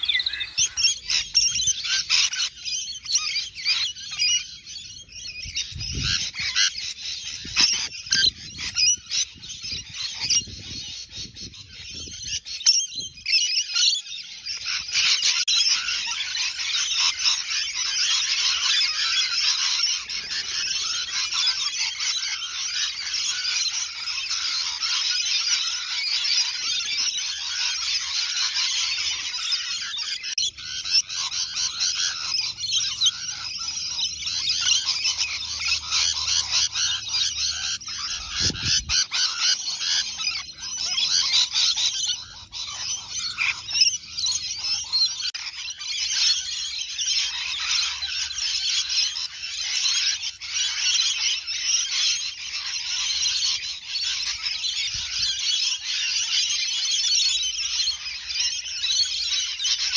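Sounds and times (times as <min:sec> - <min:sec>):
parrots chattering and screeching: 0:00.0 - 0:59.9.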